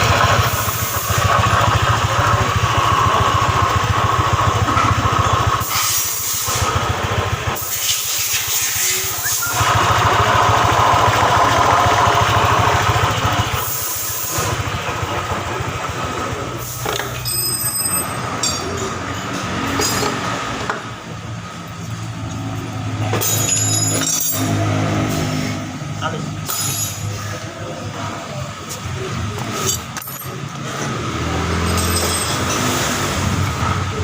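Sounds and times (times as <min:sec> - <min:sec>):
scooter grinding rumble: 0:00.0 - 0:34.0.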